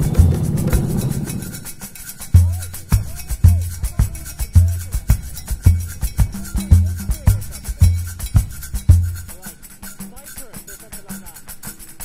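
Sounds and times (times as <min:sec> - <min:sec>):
clicking percussion: 0:00.0 - 0:12.0.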